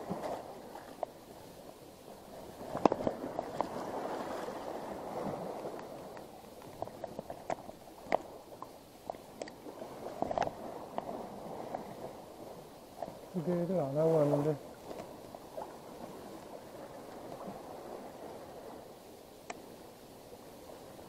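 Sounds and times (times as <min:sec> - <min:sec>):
sea water gurgling among rocks: 0:00.0 - 0:19.0.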